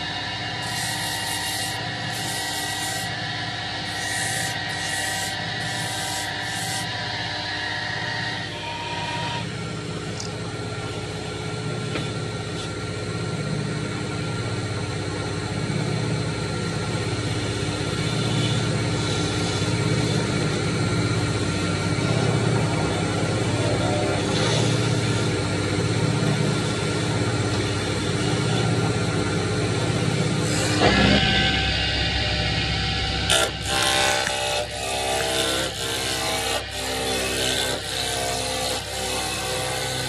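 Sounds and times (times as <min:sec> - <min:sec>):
lathe humming: 0:00.0 - 0:40.0.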